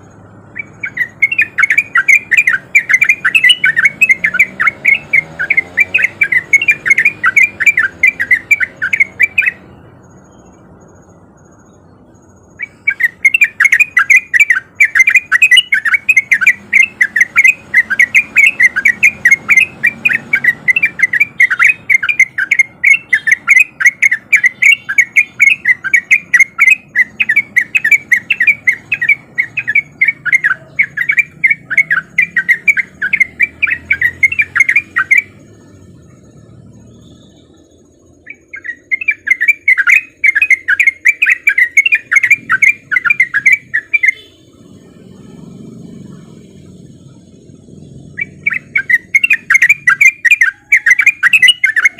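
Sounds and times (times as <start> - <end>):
bird singing chattering notes: 0.0 - 51.9.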